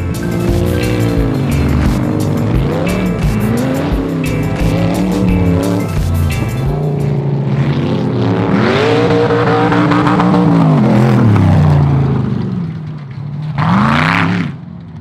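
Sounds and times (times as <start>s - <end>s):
buggy engine revving hard: 0.0s - 12.9s, 13.5s - 14.7s.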